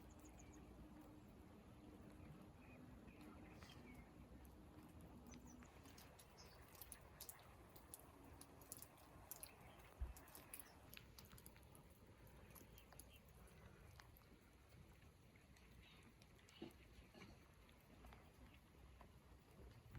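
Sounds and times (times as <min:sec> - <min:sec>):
faint clicks and taps: 0:03.1 - 0:19.9.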